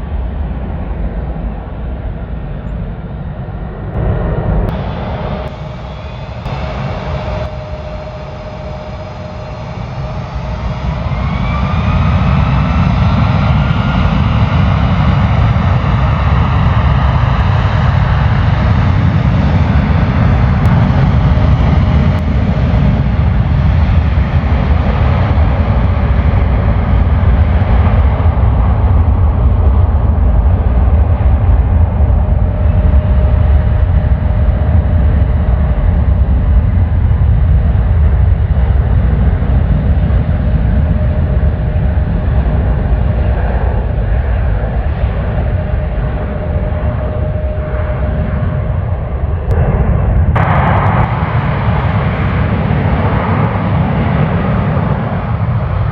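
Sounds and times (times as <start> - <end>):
jet airliner engines: 0.0 - 55.9.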